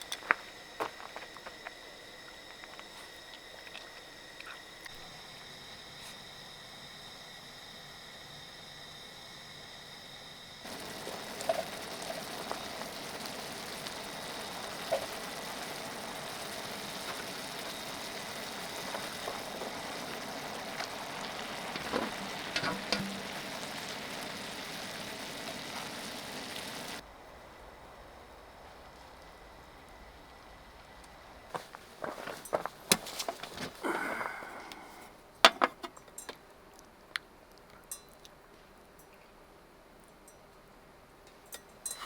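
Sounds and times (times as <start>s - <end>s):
food sizzling with pops: 0.0s - 38.3s.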